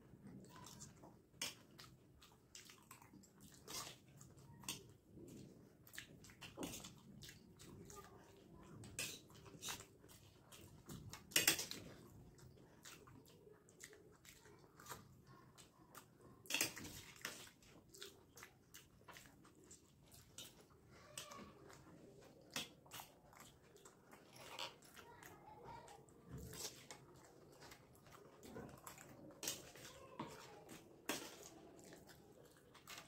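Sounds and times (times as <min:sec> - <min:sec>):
people chewing: 0:00.0 - 0:33.0.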